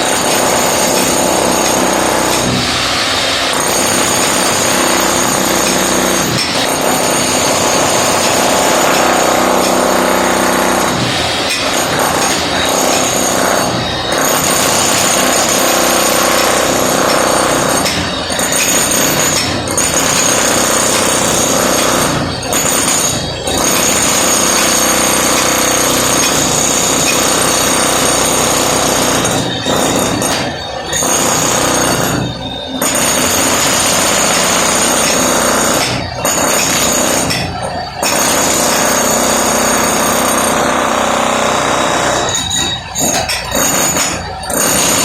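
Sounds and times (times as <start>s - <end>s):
demolition hammer chiselling concrete: 0.0s - 45.0s.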